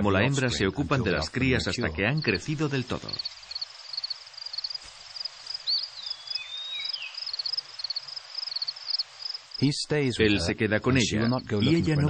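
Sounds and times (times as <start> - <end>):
outdoor ambience hiss: 0.0 - 12.0
crickets chirping: 1.1 - 12.0.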